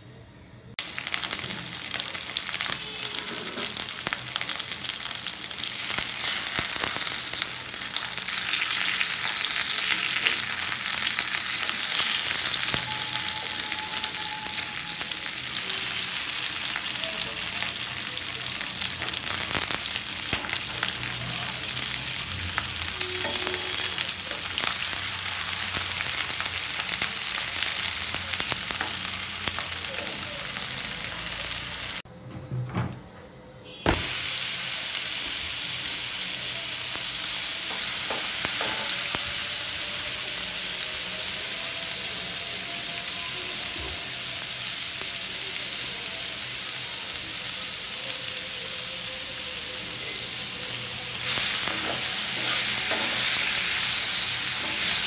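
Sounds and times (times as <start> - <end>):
fish sizzling in hot oil: 0.8 - 32.0, 33.9 - 55.0.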